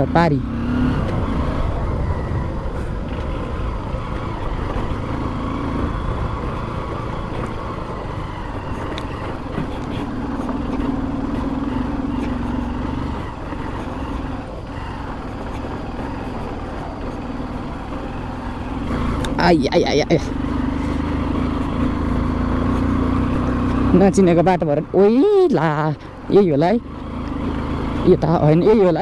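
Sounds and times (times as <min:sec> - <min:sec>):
motorcycle engine running: 0:00.0 - 0:29.0
rumble of wind and road: 0:00.0 - 0:29.0.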